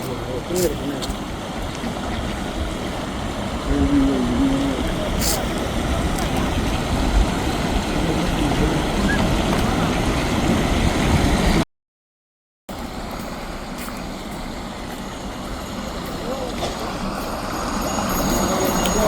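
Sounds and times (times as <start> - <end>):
city traffic: 0.0 - 11.6, 12.7 - 19.0
flowing stream water: 0.0 - 11.6, 12.7 - 19.0.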